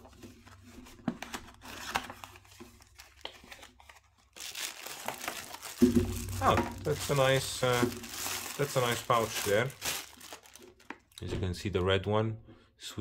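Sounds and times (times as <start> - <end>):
plastic wrap crinkling: 0.0 - 11.3.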